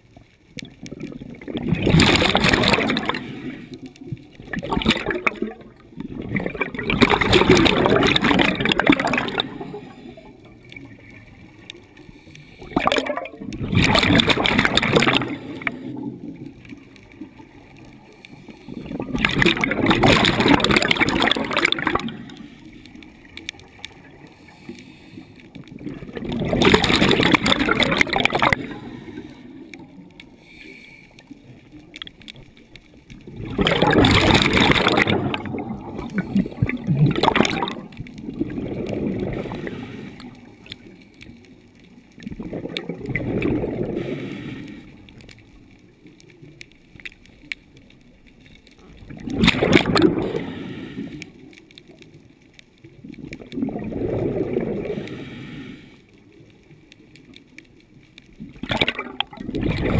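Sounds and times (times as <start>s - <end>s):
scuba exhaust bubbles gurgling: 0.0s - 59.9s.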